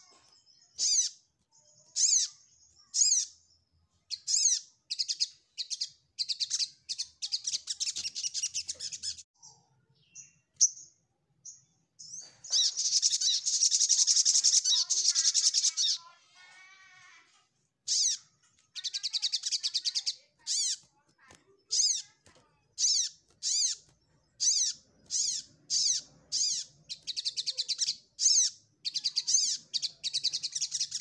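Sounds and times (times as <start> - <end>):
bird singing trills: 0.0 - 16.1, 17.9 - 20.9, 21.6 - 31.0.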